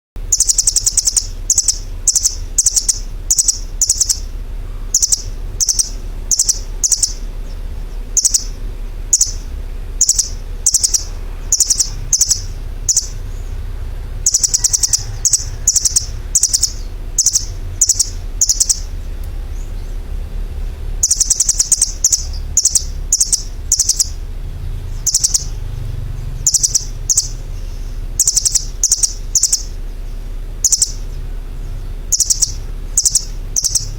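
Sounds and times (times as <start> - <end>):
bird chirping: 0.2 - 33.9
steady low hum: 0.2 - 33.9.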